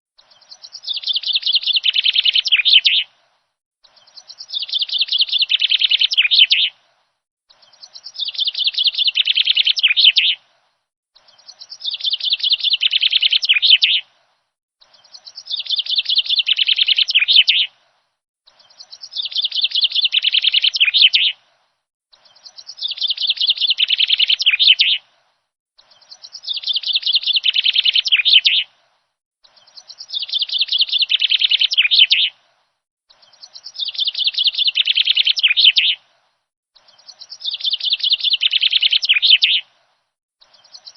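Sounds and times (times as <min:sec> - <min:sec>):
bird chirping: 0:00.2 - 0:06.8, 0:07.5 - 0:10.5, 0:11.2 - 0:25.1, 0:25.8 - 0:40.9.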